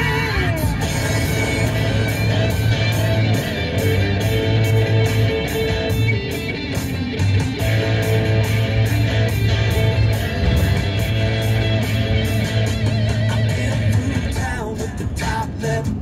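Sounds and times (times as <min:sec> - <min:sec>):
rock music on car radio: 0:00.0 - 0:16.0.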